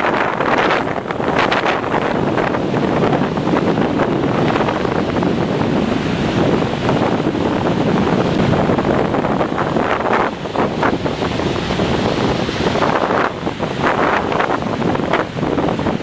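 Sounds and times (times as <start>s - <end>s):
strong wind on microphone: 0.0s - 16.0s
waves and surf rushing: 0.0s - 16.0s.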